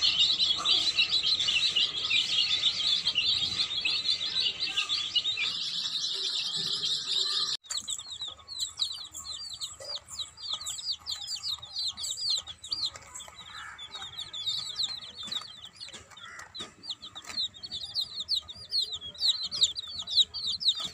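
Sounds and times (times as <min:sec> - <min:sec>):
chicks peeping: 0:00.0 - 0:20.9.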